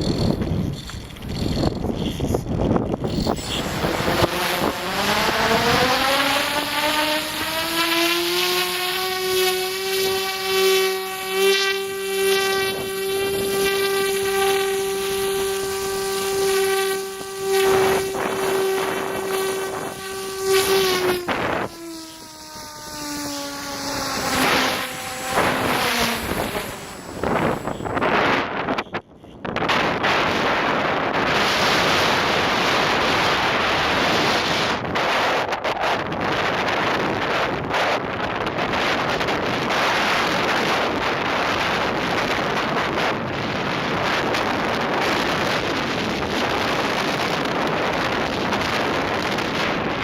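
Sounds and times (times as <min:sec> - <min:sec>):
loud pitched hum: 0:00.0 - 0:50.0
wind buffeting microphone: 0:00.0 - 0:50.0.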